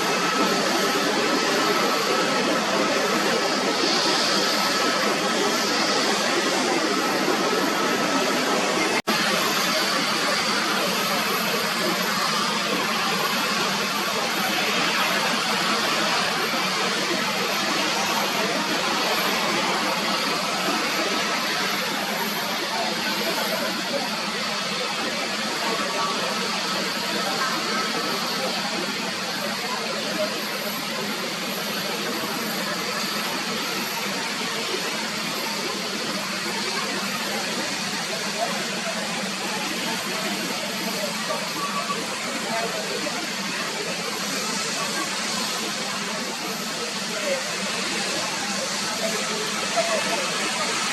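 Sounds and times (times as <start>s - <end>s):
jet engine noise: 0.0s - 50.9s.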